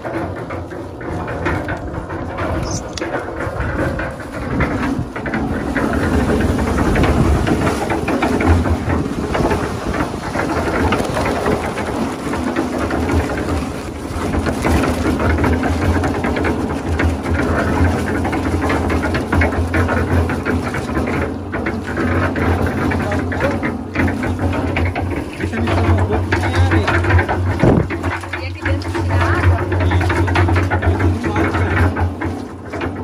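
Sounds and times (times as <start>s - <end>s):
concrete mixer drum humming: 0.0s - 33.0s.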